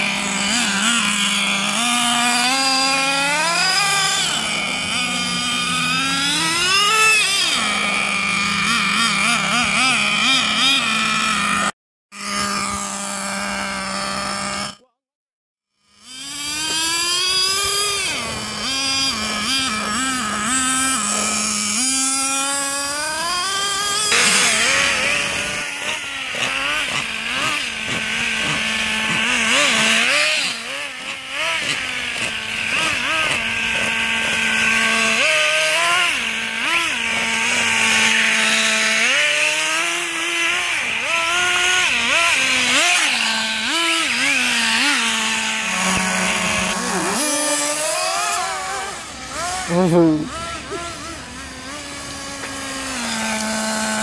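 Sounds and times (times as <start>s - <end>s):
small nitro engines revving: 0.0s - 15.0s, 15.7s - 54.0s.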